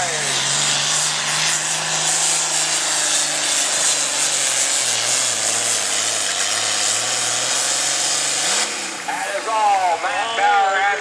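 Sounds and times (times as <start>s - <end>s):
tractor diesel engine at full power: 0.0s - 11.0s.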